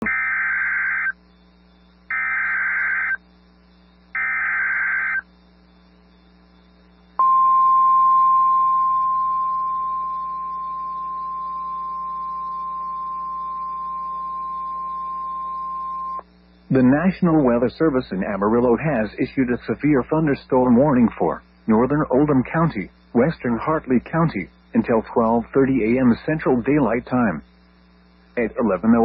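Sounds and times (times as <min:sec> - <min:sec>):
warbling digital data tones: 0:00.0 - 0:27.4.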